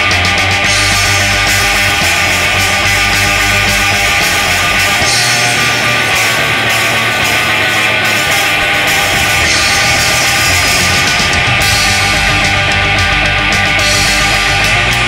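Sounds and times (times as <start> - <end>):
loud background music: 0.0 - 15.0.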